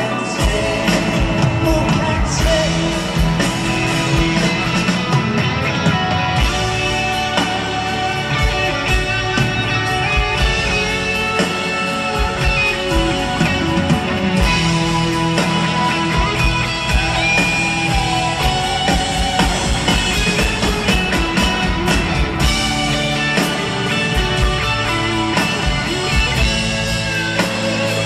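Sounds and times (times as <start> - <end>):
drums: 0.0 - 28.0
electric guitar melody: 0.0 - 28.0
keyboards: 0.0 - 28.0.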